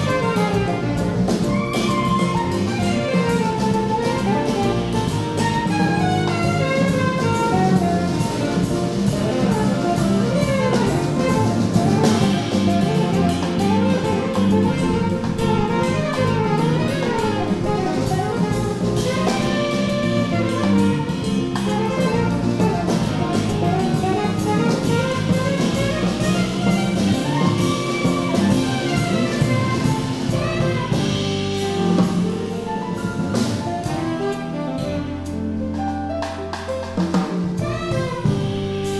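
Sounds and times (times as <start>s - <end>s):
saxophone melody: 0.0s - 36.5s, 37.4s - 38.9s
drum kit played with sticks: 0.0s - 38.9s
grand piano: 0.0s - 38.9s
upright bass: 0.0s - 38.9s.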